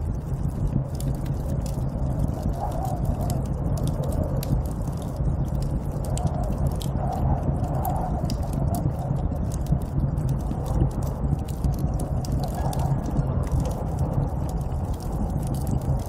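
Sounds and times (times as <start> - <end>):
snowstorm wind: 0.0 - 16.0
small sharp crackles: 0.4 - 16.0.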